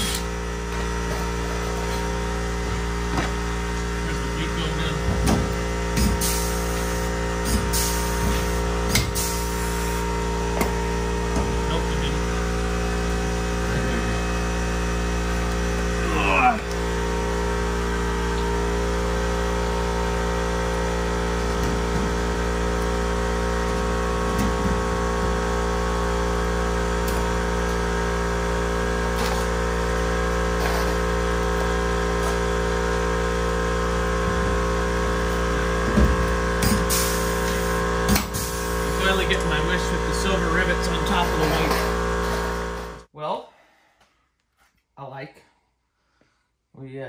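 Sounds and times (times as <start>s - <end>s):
machine humming steadily: 0.0s - 43.1s.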